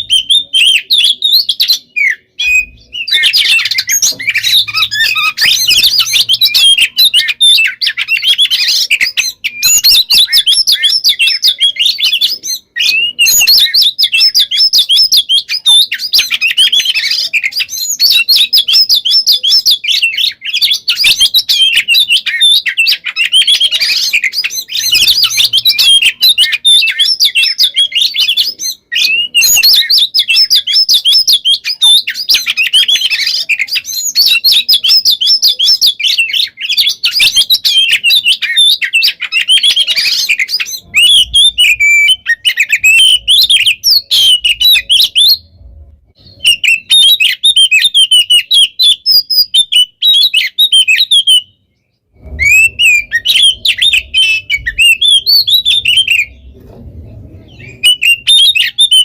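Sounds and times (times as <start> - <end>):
songbird singing trills: 0.0 - 59.0.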